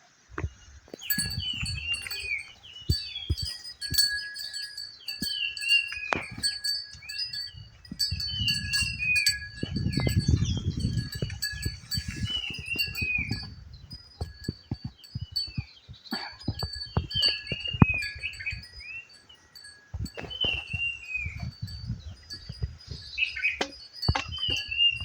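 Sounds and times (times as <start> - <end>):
birds whistling calls: 0.9 - 25.0.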